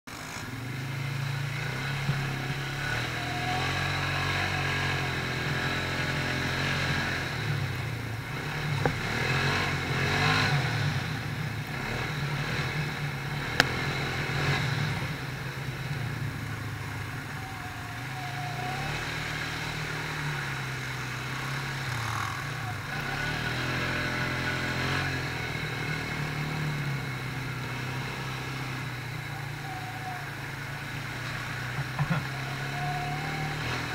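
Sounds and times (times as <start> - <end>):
quad bike engine revving: 0.1 - 33.9.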